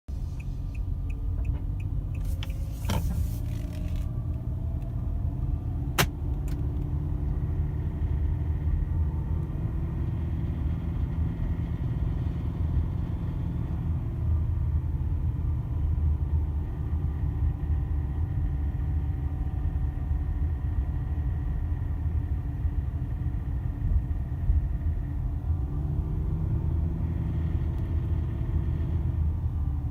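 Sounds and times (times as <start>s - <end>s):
car engine rumbling: 0.1s - 29.9s.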